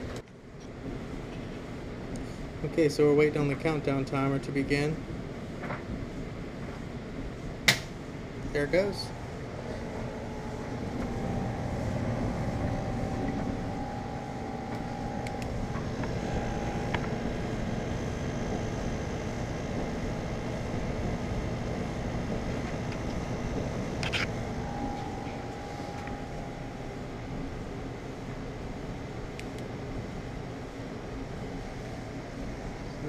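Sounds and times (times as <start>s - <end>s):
dryer humming and whirring: 0.0s - 33.0s.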